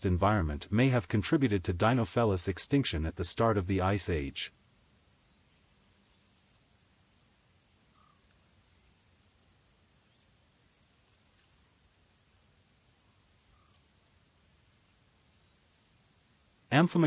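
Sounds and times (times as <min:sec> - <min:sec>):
insects trilling: 0:00.0 - 0:17.0
insect chirping: 0:00.1 - 0:17.0.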